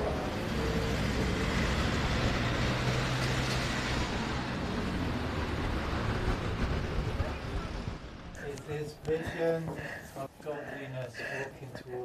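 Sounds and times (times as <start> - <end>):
vehicle engine humming: 0.0 - 11.1
traffic noise: 0.0 - 12.0.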